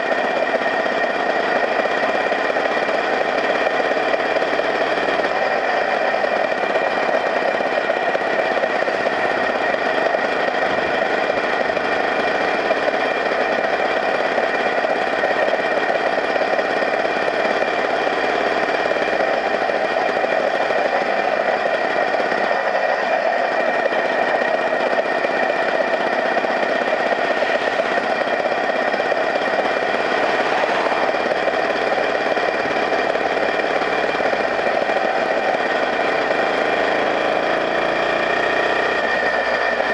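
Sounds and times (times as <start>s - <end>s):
constant whine: 0.0s - 39.9s
small engine running: 0.0s - 39.9s.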